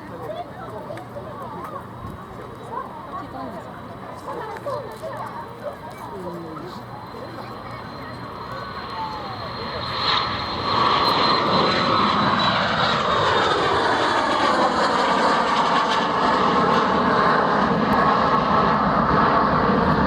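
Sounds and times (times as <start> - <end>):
jet engine roar: 3.4 - 20.0.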